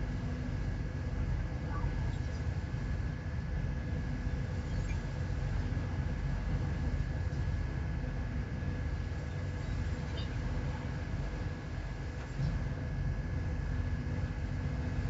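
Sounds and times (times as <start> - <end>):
faint steady whine: 0.0 - 15.0
ship engine low rumble: 0.0 - 15.0.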